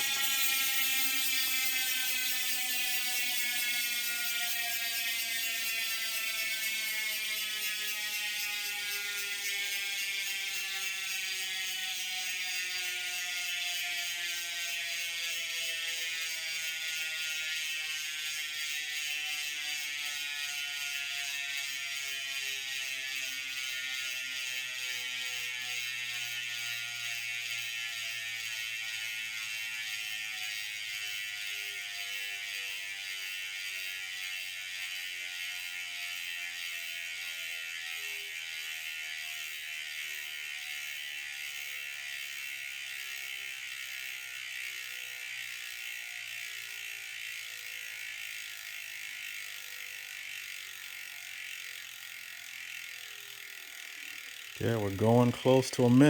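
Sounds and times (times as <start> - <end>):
bicycle hub ratchet buzzing: 0.0 - 56.0.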